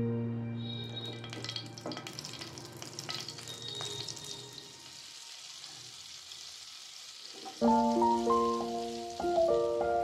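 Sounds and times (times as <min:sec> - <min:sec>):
butter sizzling in frying pan: 0:00.8 - 0:10.0.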